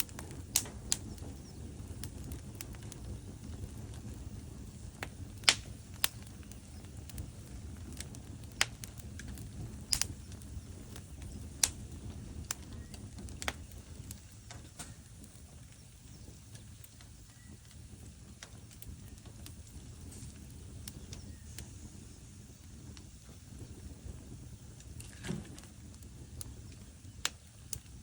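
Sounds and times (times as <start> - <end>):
fire flames rumbling: 0.0 - 28.0
logs crackling and popping: 0.0 - 28.0.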